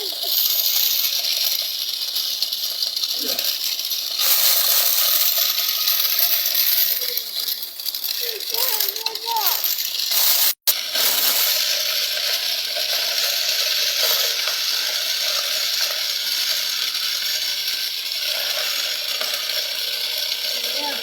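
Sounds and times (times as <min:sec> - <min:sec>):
toy tractor running: 0:00.0 - 0:21.0.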